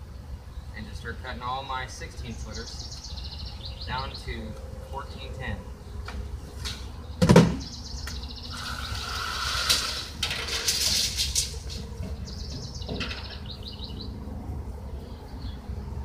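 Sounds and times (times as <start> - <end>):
birds chirping in trills: 0.0 - 16.0.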